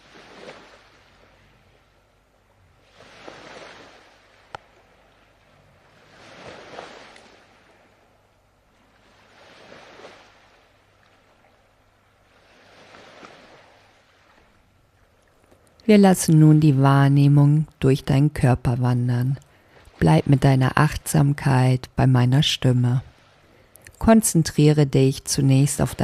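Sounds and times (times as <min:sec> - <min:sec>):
gentle ocean waves: 0:00.0 - 0:26.0.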